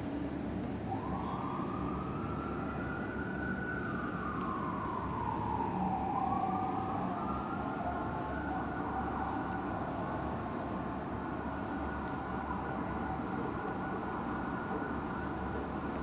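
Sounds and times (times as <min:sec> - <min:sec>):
traffic: 0:00.0 - 0:16.0
fire truck siren wailing: 0:00.8 - 0:16.0.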